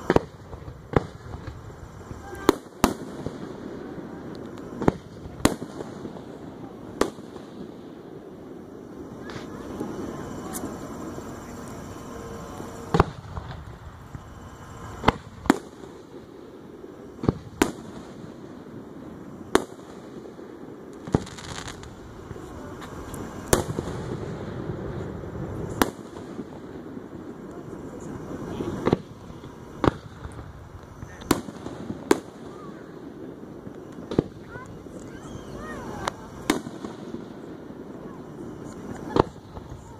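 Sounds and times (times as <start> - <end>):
firework shells bursting: 0.0 - 39.9
steady background noise: 0.0 - 39.9.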